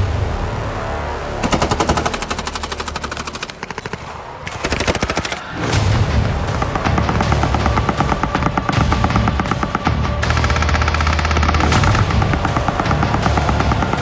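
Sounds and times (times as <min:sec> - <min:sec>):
automatic gunfire: 0:01.4 - 0:14.0.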